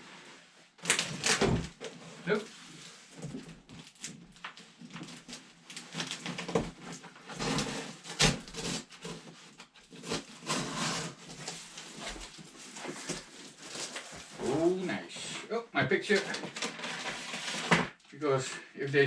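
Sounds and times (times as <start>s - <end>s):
cardboard and tape scraping: 0.8s - 14.7s, 16.1s - 17.9s.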